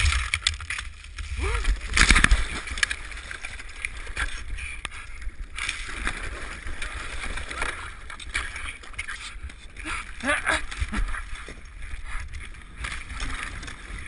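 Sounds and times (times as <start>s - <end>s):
icy water splashing and sloshing: 0.0s - 14.0s.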